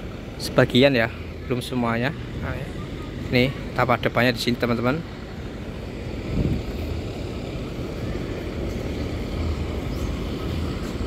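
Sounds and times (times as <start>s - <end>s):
low rumble of vehicle engines: 0.0s - 11.0s.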